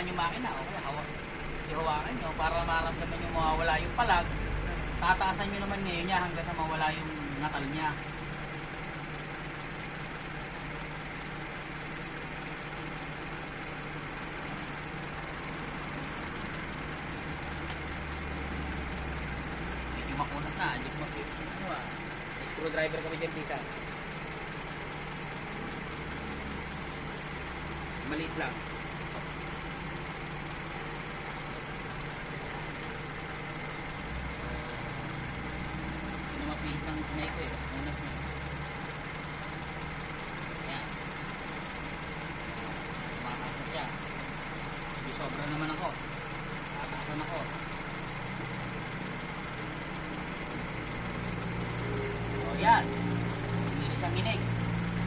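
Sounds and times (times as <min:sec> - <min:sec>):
car engine idling rough: 0:00.0 - 0:55.0.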